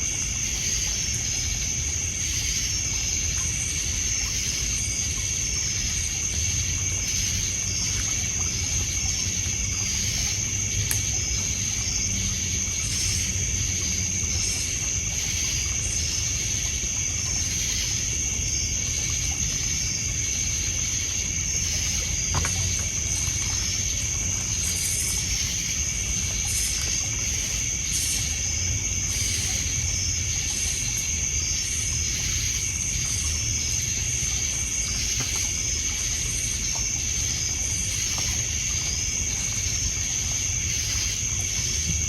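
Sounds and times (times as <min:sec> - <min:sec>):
crickets trilling: 0:00.0 - 0:42.0
water lapping: 0:00.0 - 0:42.0.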